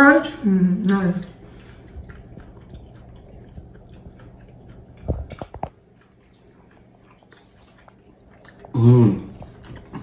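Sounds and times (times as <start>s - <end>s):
chewing crunchy vegetables: 0.8s - 10.0s.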